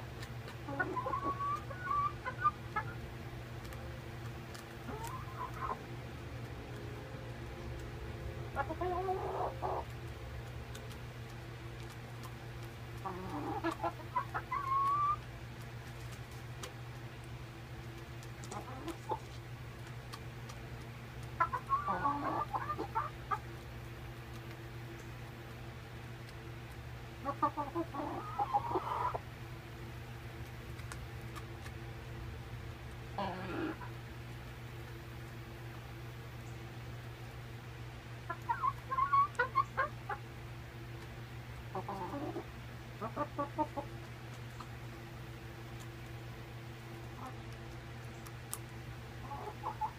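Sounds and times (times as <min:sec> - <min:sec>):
hens clucking: 0:00.0 - 0:31.9, 0:32.8 - 0:49.9
steady low hum: 0:00.0 - 0:49.9.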